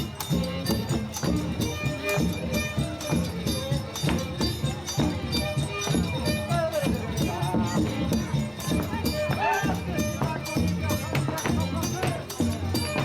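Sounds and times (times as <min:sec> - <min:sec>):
steady percussion beat: 0:00.0 - 0:13.0.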